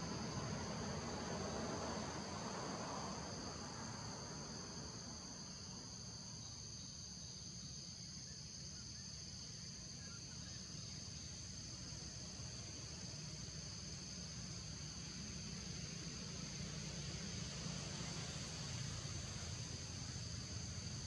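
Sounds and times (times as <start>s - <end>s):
insect chorus drone: 0.0s - 21.0s.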